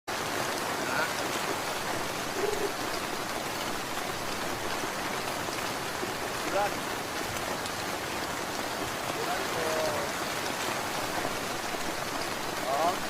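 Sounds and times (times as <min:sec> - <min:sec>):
steady rain falling: 0:00.1 - 0:13.0.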